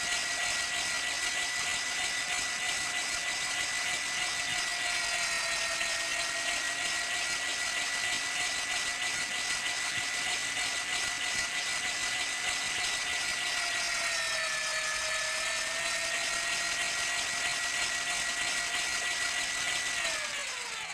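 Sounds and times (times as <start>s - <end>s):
electric meat grinder running: 0.0s - 20.9s.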